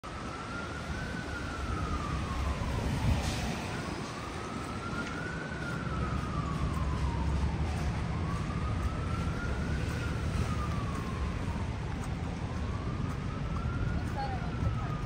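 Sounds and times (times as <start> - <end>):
emergency siren wailing: 0.0 - 15.0
street traffic noise: 0.0 - 15.0.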